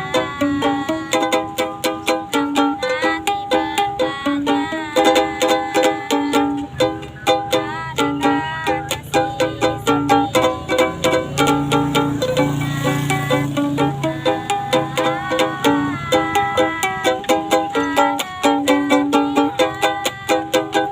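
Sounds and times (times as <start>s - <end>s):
strummed plucked-string instrument: 0.0s - 20.9s
woman singing: 0.0s - 20.9s.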